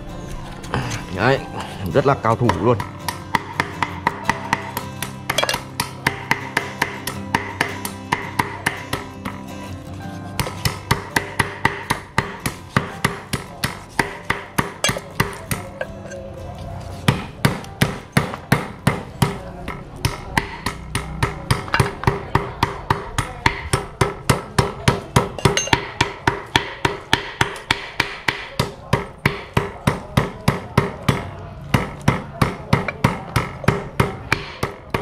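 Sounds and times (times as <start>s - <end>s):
cleaver chopping on board: 2.4s - 9.4s, 10.3s - 16.2s, 17.0s - 35.0s.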